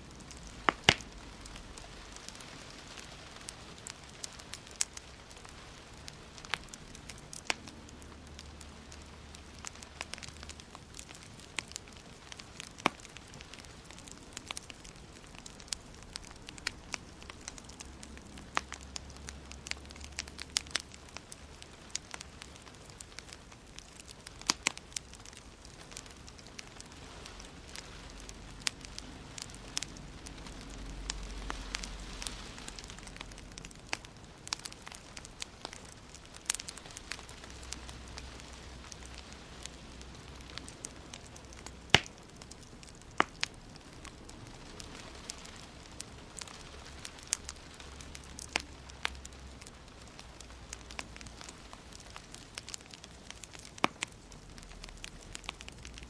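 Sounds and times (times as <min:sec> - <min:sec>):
faint low rumble: 0:00.0 - 0:56.0
fire crackling in a fireplace: 0:00.0 - 0:56.0.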